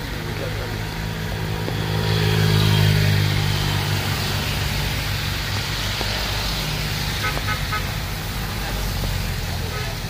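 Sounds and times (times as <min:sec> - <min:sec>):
car engine hum: 0:00.0 - 0:10.0
tyres hissing on wet road: 0:00.0 - 0:10.0.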